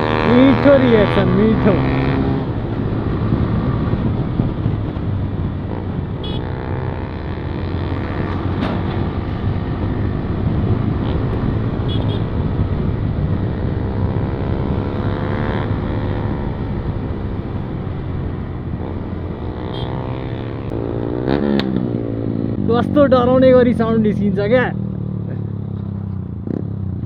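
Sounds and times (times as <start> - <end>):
motorcycle engine with loud exhaust: 0.0 - 27.0.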